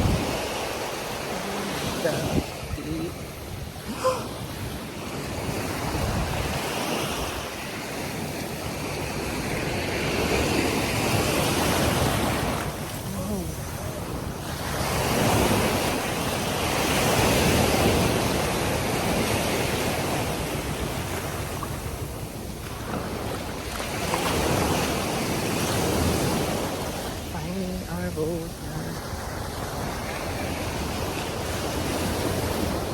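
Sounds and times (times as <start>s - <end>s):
sea surf washing on shore: 0.0s - 32.9s
wind rumbling on microphone: 0.0s - 32.9s.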